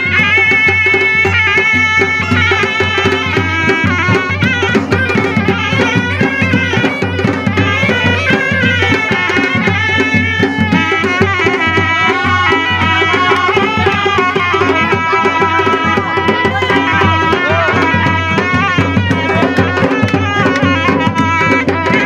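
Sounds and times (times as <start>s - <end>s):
driving drum beat: 0.0s - 22.0s
reedy shawm melody: 0.0s - 22.0s.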